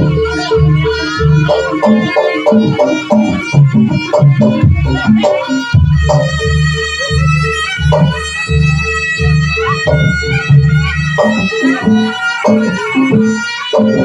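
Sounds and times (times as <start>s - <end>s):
drum strokes: 0.0s - 14.0s
nasal reed trumpet melody: 0.0s - 14.0s.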